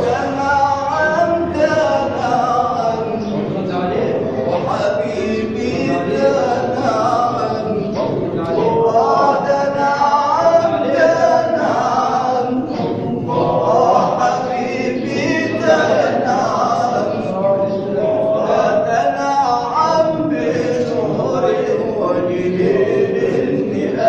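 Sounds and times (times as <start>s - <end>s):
men singing devotional chant: 0.0s - 24.0s.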